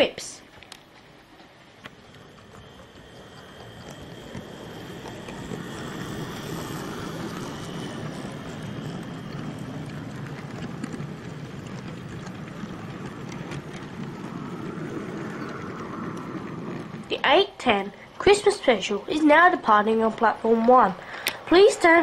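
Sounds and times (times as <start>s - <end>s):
model train rumbling on track: 0.0s - 22.0s
wheels clicking over rail joints: 0.0s - 22.0s.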